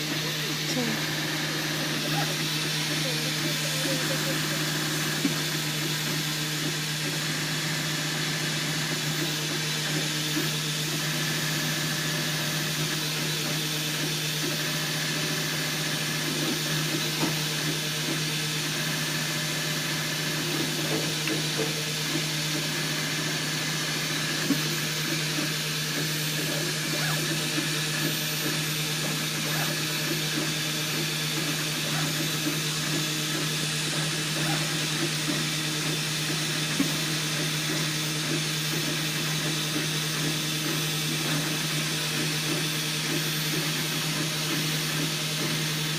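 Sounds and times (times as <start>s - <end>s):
printer machine hum: 0.0s - 45.9s
wavering motor whir: 0.0s - 45.9s.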